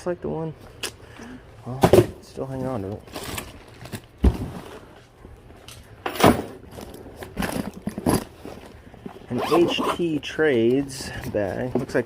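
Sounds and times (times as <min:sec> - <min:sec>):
objects rustling while rummaged: 0:01.7 - 0:12.0.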